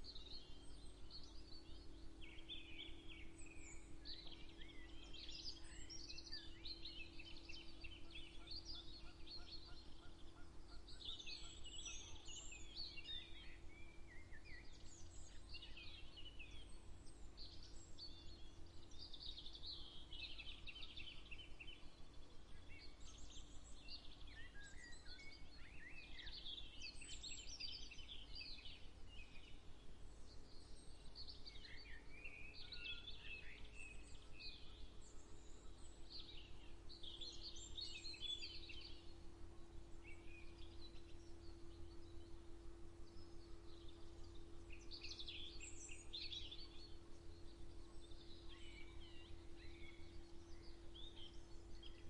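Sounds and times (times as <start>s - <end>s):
faint low rumble and hum: 0.0s - 52.0s
songbirds chirping and trilling: 0.0s - 52.0s.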